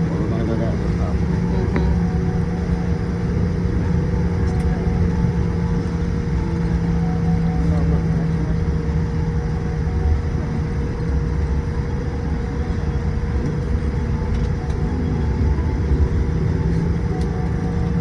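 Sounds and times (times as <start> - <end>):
airplane cabin rumble: 0.0 - 18.0.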